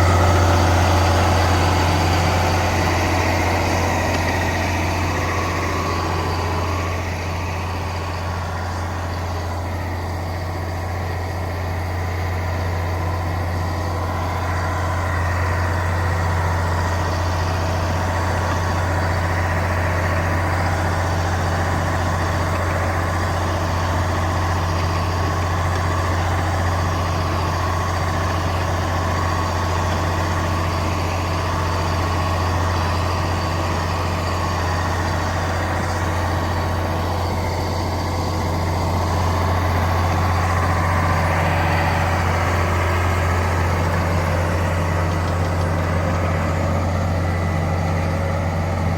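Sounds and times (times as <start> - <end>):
heavy diesel engine humming: 0.0 - 48.9.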